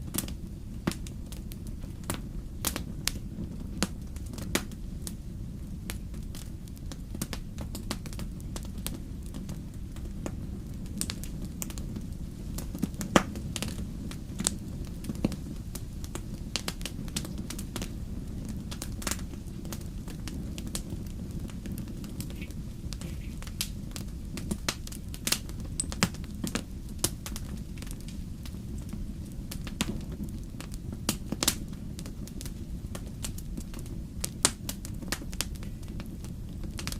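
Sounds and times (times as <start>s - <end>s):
steady low rumble: 0.0s - 36.9s
wood fire crackling and popping: 0.0s - 36.9s.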